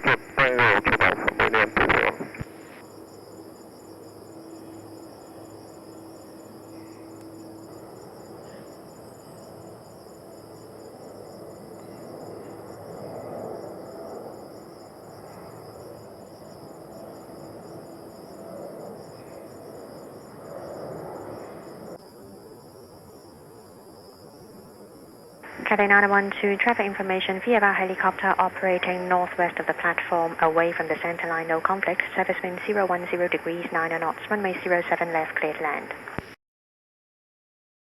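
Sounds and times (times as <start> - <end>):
insects chirring: 0.0 - 36.3.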